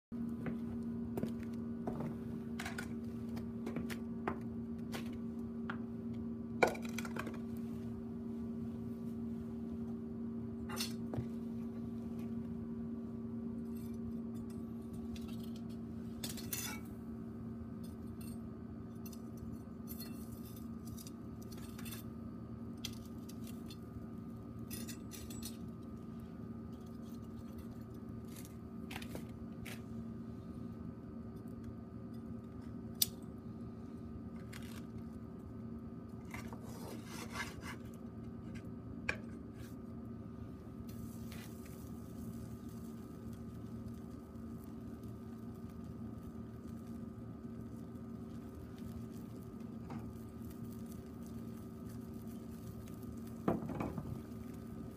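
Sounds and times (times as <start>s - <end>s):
steady low hum: 0.2s - 54.9s.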